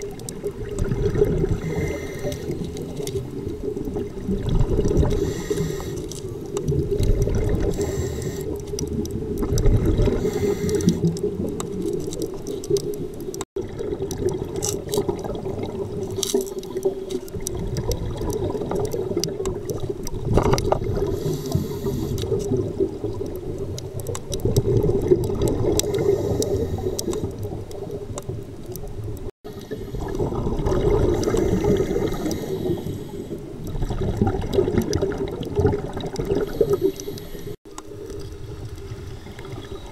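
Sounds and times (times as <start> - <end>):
scuba bubbles gurgling: 0.0 - 39.9.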